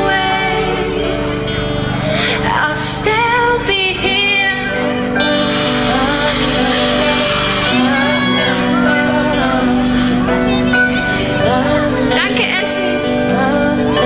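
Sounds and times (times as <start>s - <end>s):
instrumental accompaniment: 0.0s - 14.0s
woman singing into a microphone: 0.0s - 14.0s.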